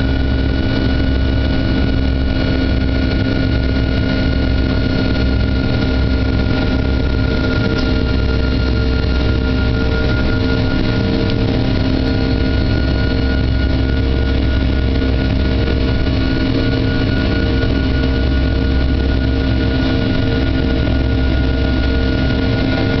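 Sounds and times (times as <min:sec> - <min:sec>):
jet engine cabin drone: 0:00.0 - 0:23.0.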